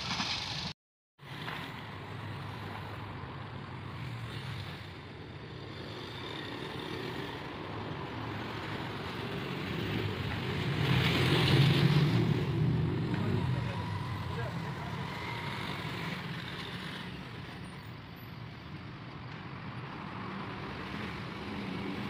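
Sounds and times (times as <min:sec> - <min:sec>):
locomotive drone and rumble: 0:00.0 - 0:22.0.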